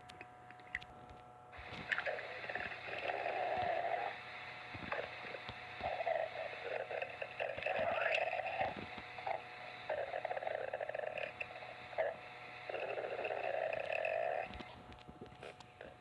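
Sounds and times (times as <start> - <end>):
stomach growling: 1.6 - 16.0.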